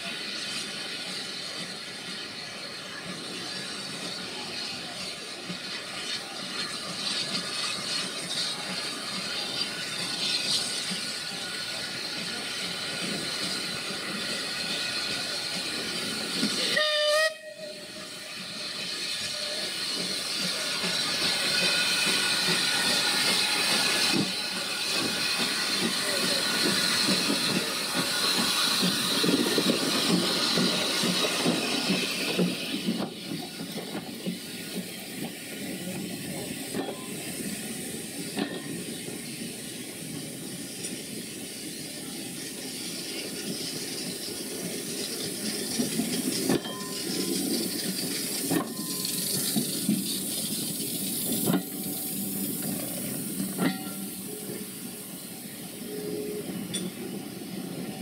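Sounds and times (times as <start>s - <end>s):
steam hissing: 0.0s - 58.0s
train coaches rumbling past: 0.0s - 58.0s
wheels clicking on rail joints: 0.0s - 58.0s.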